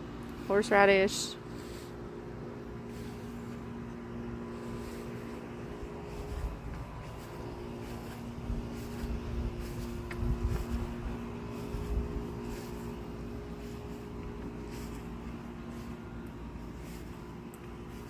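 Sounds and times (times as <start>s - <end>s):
air conditioner humming: 0.0s - 18.0s
low rumbling: 1.4s - 18.0s.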